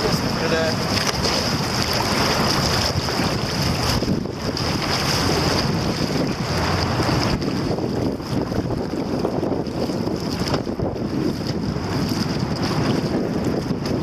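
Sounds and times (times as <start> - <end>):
river current rushing: 0.0 - 13.7
paddle strokes splashing: 0.0 - 14.0
wind buffeting microphone: 0.0 - 14.0.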